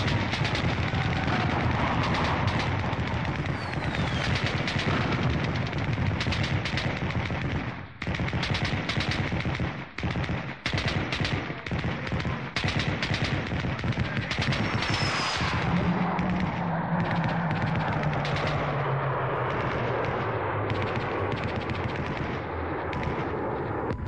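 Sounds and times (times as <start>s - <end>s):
rapid machine-gun fire: 0.0s - 18.9s, 19.5s - 24.0s.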